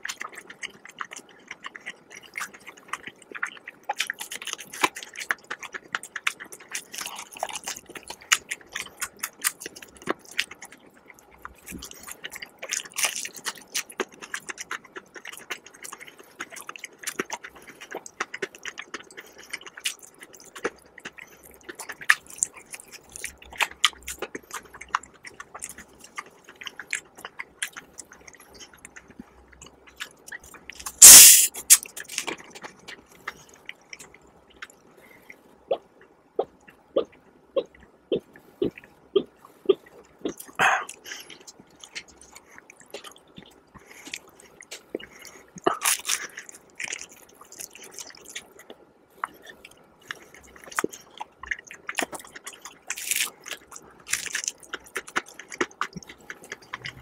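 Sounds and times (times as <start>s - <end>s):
chewing crispy fried chicken: 0.0s - 57.0s.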